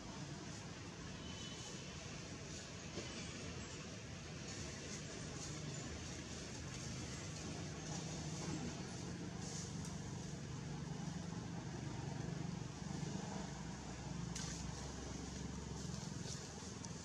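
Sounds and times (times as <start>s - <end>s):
distant engine hum: 1.7s - 17.0s.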